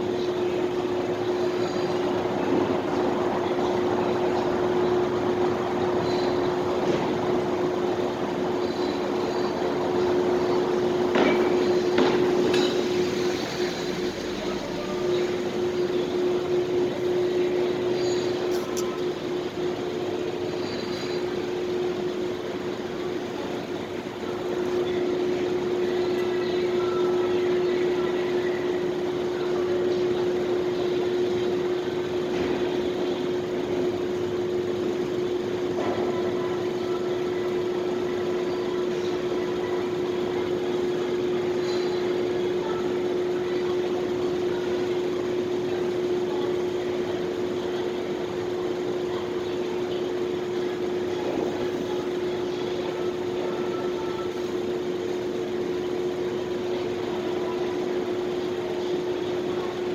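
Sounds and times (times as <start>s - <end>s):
faint vehicle sounds: 0.0s - 55.4s
mechanical hum: 0.0s - 59.9s.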